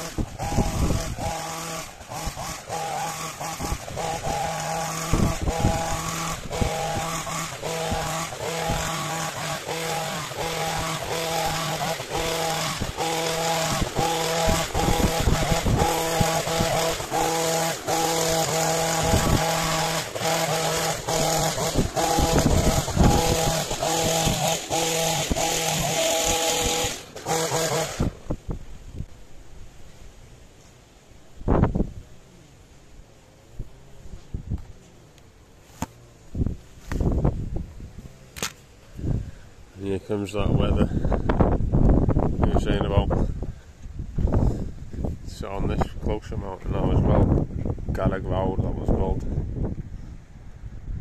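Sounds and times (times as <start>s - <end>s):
hedge trimmer engine running: 0.0s - 29.5s, 31.6s - 49.8s.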